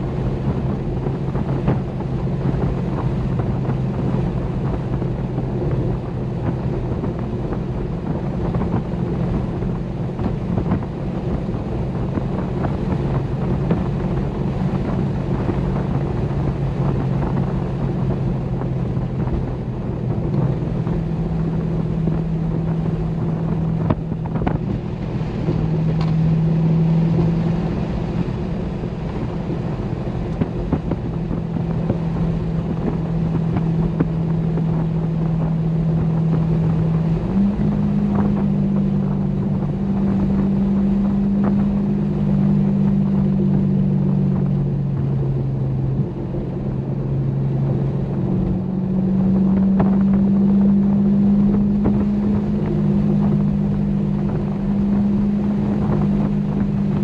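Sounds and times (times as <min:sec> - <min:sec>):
car exhaust drone: 0:00.0 - 0:57.0
wind and road noise: 0:00.0 - 0:57.0.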